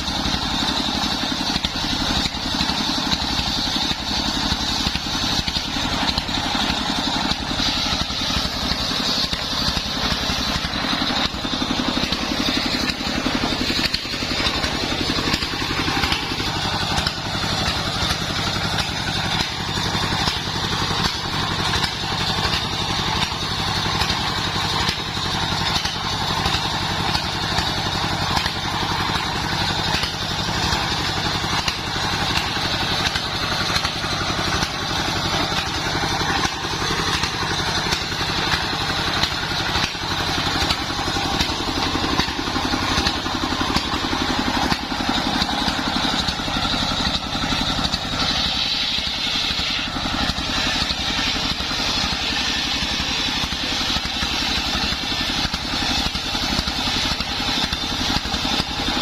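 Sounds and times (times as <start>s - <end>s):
saw rig engine pulsing: 0.0s - 59.0s.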